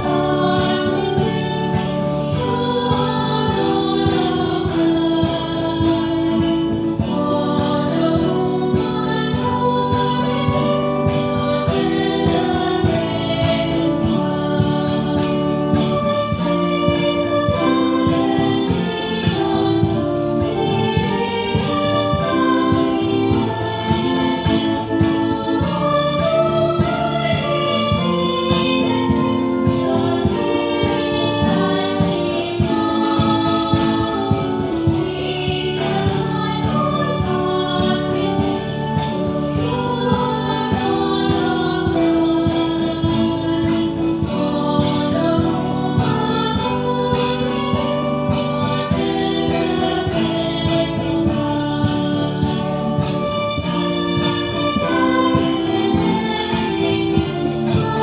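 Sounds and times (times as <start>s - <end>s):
choir singing a hymn: 0.0s - 58.0s
instrumental accompaniment with beat: 0.0s - 58.0s.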